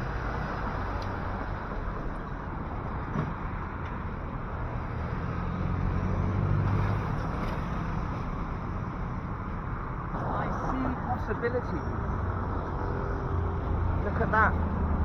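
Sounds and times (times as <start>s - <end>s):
street traffic noise: 0.0s - 15.0s
vehicle engine hum passing: 0.0s - 15.0s.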